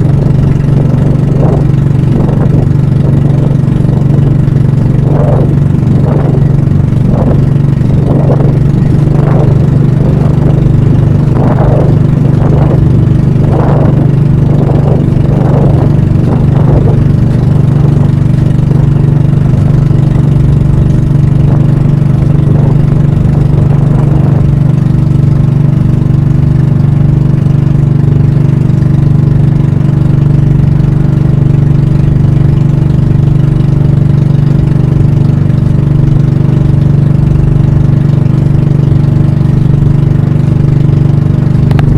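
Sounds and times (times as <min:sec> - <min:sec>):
boat engine humming: 0:00.0 - 0:41.9
engine surging: 0:00.0 - 0:41.9.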